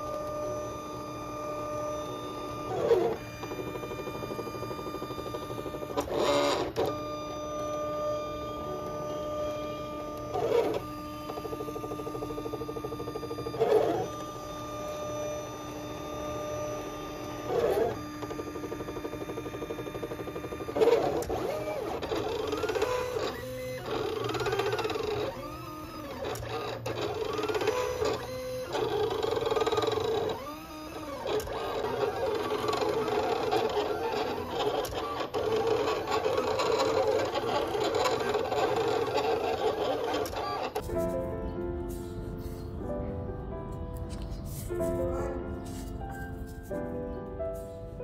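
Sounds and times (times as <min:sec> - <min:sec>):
short whirs: 0:00.0 - 0:43.1
cutting machine motors whining: 0:00.0 - 0:48.0.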